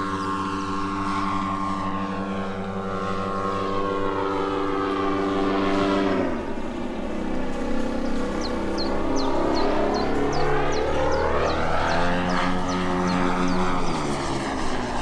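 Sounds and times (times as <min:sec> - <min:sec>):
model airplane propeller drone: 0:00.0 - 0:15.0.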